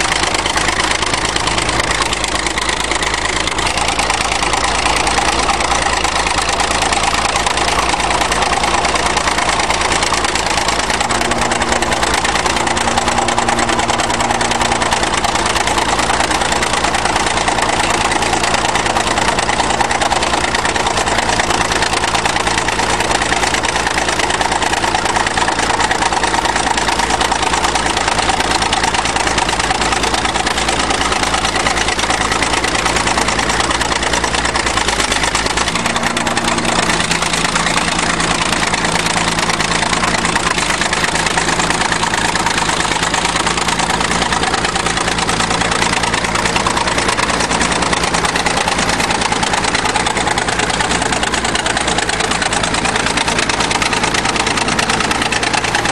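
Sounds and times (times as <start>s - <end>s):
bulldozer engine running under load: 0.0s - 55.9s.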